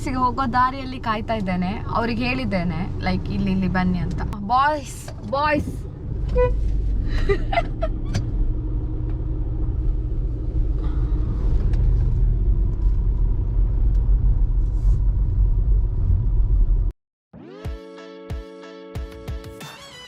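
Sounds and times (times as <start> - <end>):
vehicle rumble: 0.0 - 16.9.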